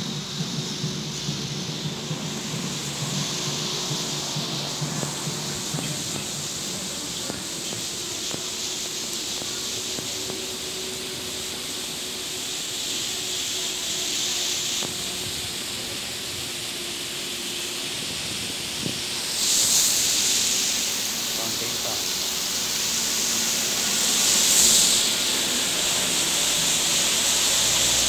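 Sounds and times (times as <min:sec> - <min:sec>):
steady hissing noise: 0:00.0 - 0:28.0.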